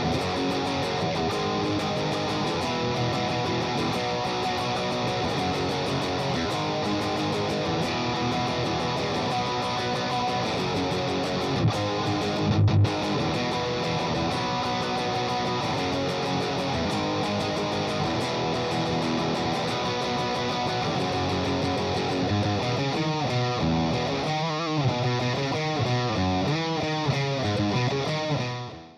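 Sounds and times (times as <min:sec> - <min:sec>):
electric guitar playing: 0:00.0 - 0:28.9.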